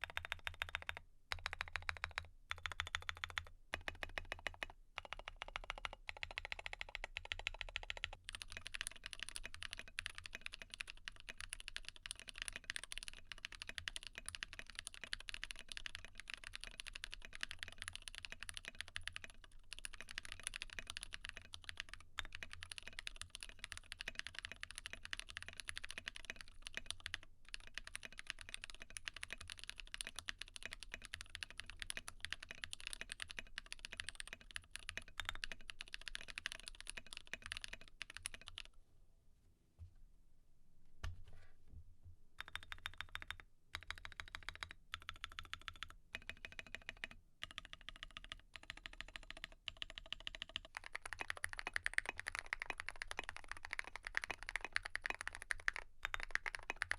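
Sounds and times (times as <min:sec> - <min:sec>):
fast typing on mechanical keyboard: 0:00.0 - 0:38.7, 0:42.4 - 0:56.9.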